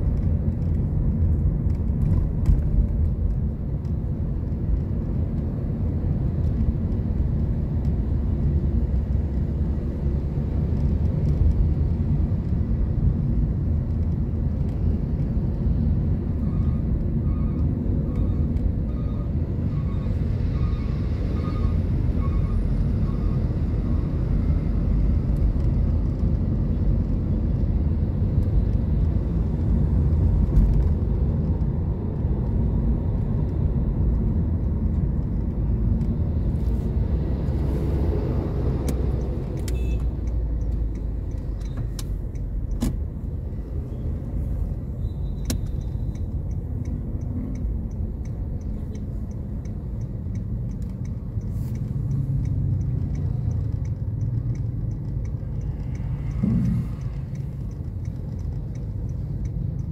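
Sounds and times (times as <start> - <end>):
car driving rumble inside cabin: 0.0 - 59.9.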